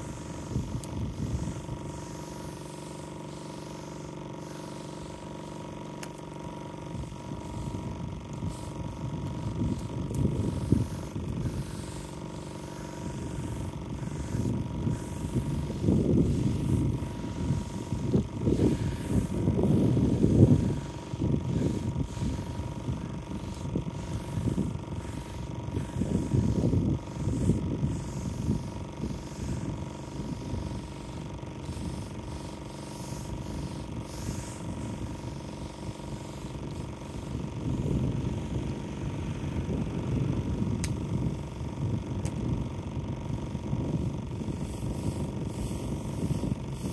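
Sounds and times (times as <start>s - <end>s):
water spraying on a wall: 0.0s - 39.9s, 43.8s - 46.9s
pressure washer motor hum: 0.0s - 46.9s.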